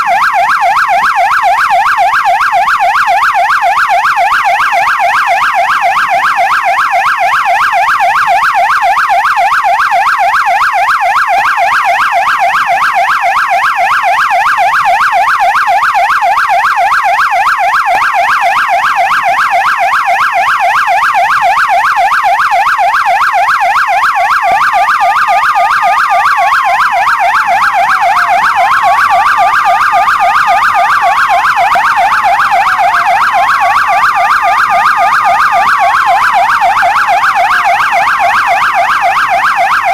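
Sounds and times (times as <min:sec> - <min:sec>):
police siren yelp: 0:00.0 - 0:39.9
siren wail: 0:00.0 - 0:39.9.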